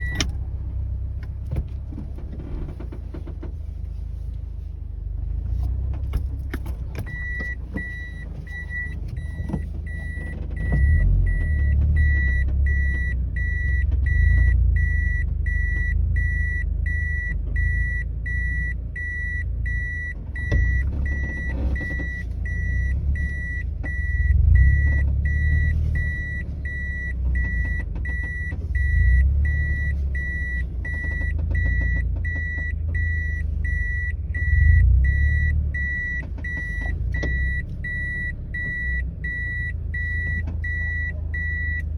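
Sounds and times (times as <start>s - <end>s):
in-car warning chime beeping: 0.0s - 0.3s, 6.2s - 41.9s
low engine rumble: 0.0s - 41.9s.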